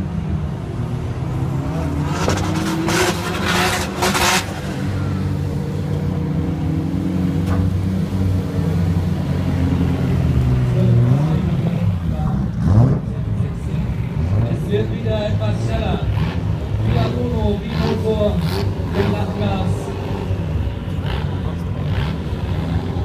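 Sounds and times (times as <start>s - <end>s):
race car engine revving: 0.4s - 23.0s.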